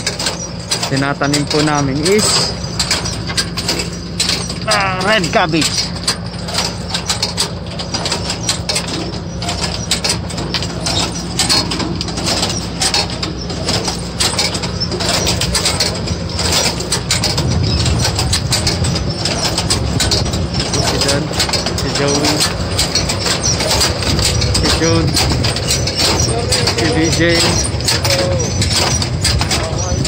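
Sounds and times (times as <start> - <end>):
machine parts clattering and clicking: 0.0 - 30.0
tractor engine hum: 0.0 - 30.0.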